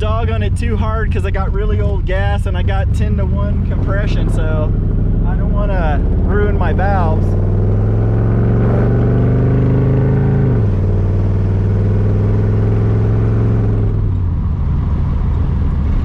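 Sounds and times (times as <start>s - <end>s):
car engine driving: 0.0s - 16.0s.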